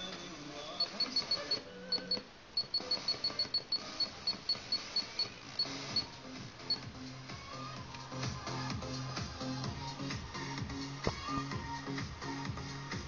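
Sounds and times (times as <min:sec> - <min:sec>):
faint radio music: 0:00.0 - 0:13.0.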